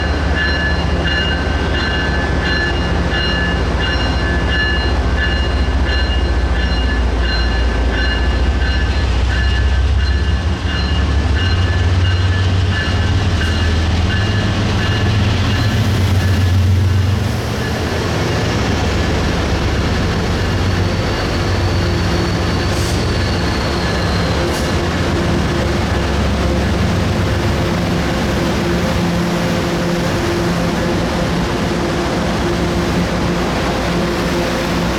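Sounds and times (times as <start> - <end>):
diesel locomotive rumbling: 0.0 - 34.9.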